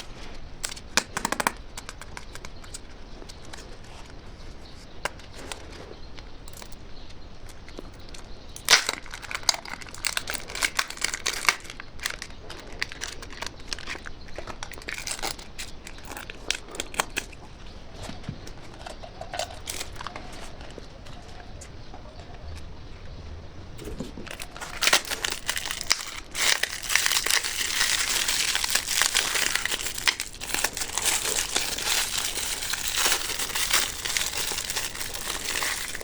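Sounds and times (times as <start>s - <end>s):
candy crackling and crunching: 0.0s - 21.3s, 23.8s - 36.0s.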